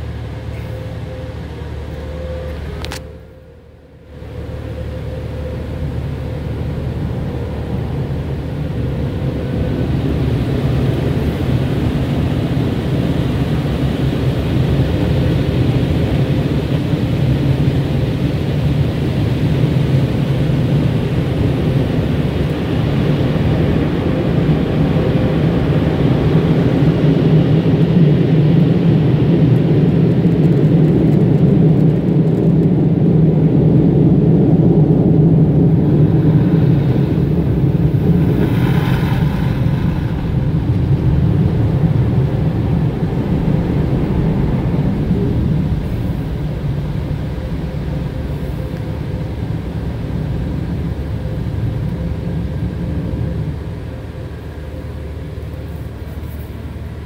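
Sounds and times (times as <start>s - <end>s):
air-dryer blowers roaring: 0.0s - 57.0s.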